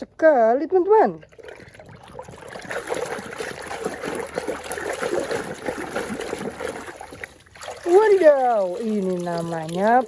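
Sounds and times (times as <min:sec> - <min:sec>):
water trickling and splashing: 0:00.3 - 0:10.0.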